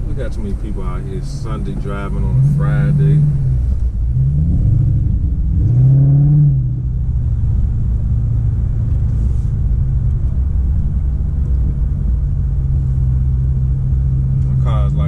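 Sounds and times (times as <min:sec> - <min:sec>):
car exhaust droning: 0:00.0 - 0:15.0.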